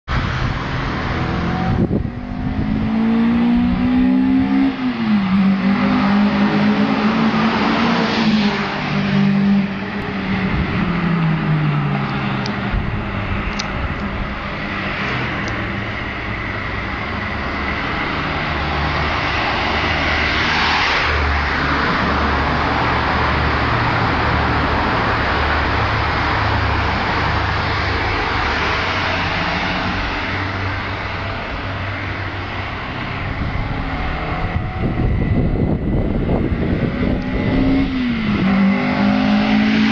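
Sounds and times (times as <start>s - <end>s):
car rumbling: 0.0s - 39.9s
car engine accelerating in tunnel: 0.2s - 39.9s.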